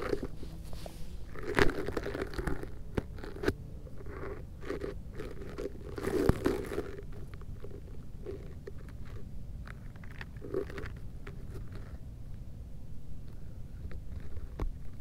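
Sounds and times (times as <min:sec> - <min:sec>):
crunching and rustling dry grass: 0:00.0 - 0:12.0.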